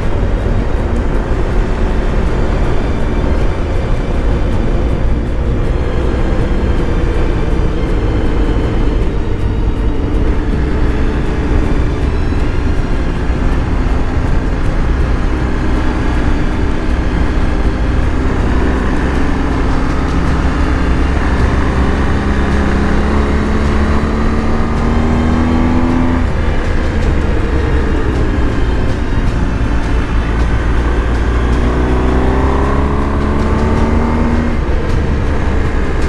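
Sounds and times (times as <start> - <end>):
motorcycle engine running: 0.0 - 36.0
wind rush: 0.0 - 36.0.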